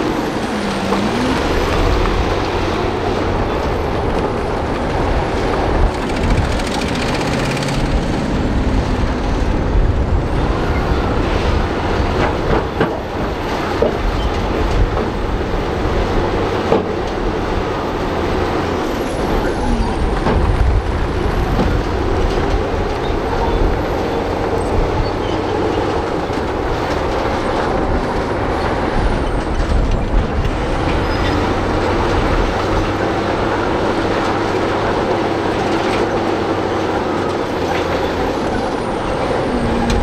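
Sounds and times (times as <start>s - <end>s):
bulldozer diesel engine: 0.0s - 40.0s
knocks and clanks of tracks: 0.0s - 40.0s.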